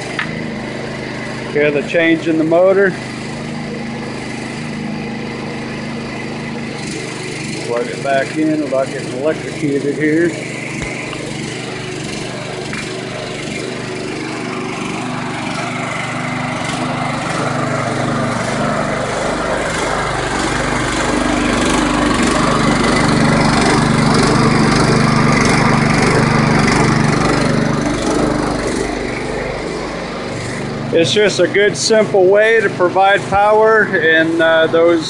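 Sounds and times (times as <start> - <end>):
small gasoline engine running: 0.0 - 35.0.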